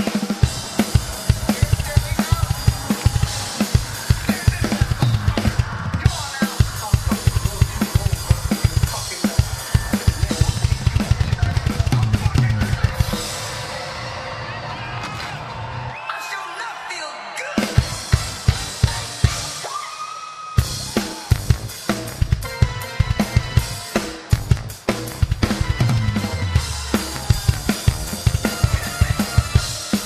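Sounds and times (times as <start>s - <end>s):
drum kit solo: 0.0s - 14.4s, 17.6s - 19.8s, 20.6s - 30.0s
crowd noise: 0.0s - 30.0s.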